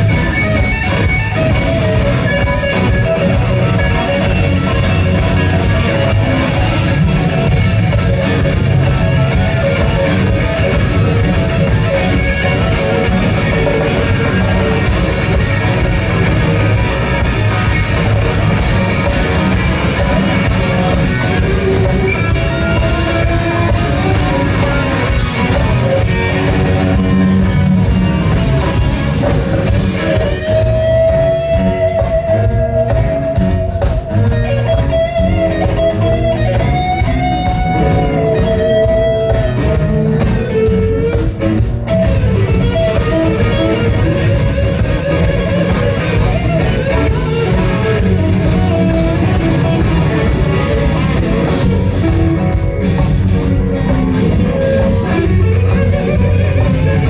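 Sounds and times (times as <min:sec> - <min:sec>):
lead electric guitar long note: 0:00.0 - 0:57.0
live rock band jamming: 0:00.0 - 0:57.0.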